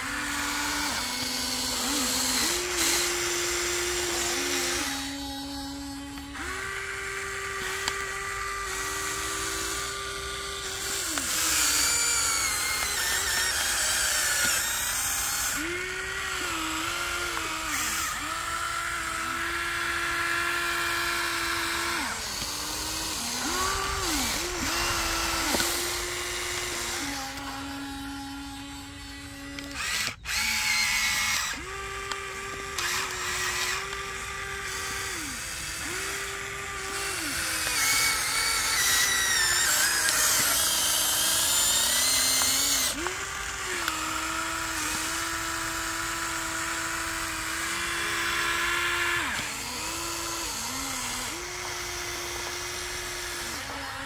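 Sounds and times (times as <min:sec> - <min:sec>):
toy excavator motors whining: 0:00.0 - 0:54.0.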